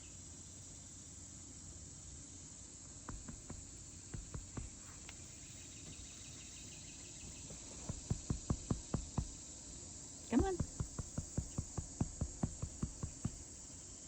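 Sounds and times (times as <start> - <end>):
crickets and insects chirring: 0.0 - 14.0.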